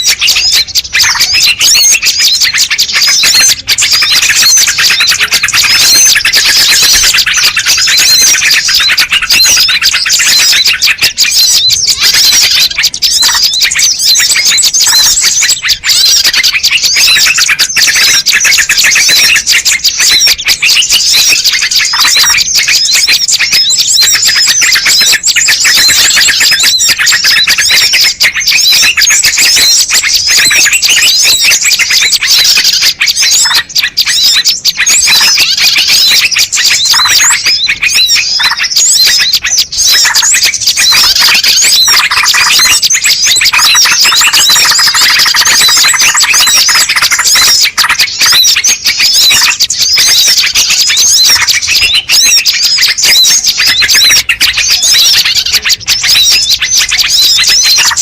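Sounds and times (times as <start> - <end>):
small birds chirping and trilling: 0.0 - 58.0.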